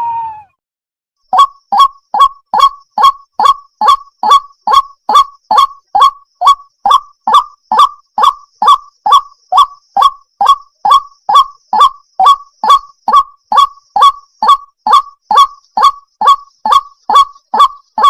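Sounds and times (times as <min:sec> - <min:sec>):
waterhen harsh croaking calls: 0:01.3 - 0:18.0.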